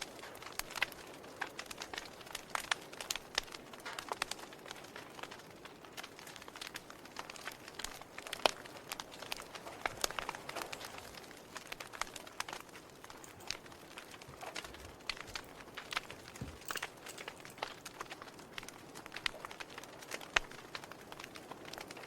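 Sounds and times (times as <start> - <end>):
faint steady hiss: 0.0 - 22.0
wood fire crackling: 0.0 - 22.0.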